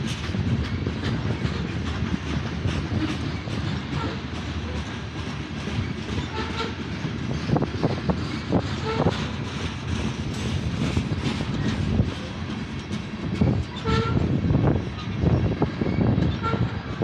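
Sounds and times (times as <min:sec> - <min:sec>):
train wheels rumbling on rails: 0:00.0 - 0:17.0
wheels clanking over rail joints: 0:00.0 - 0:17.0.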